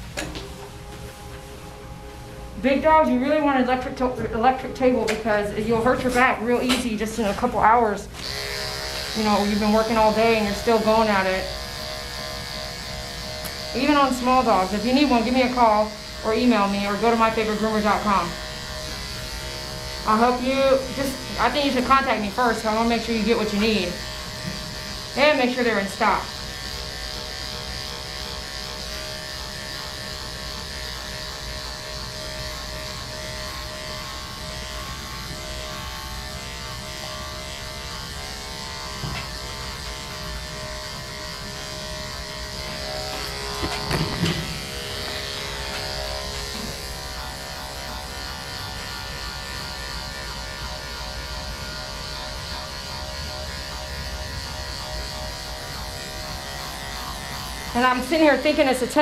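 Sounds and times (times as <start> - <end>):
electric clipper buzzing: 1.9 - 59.0.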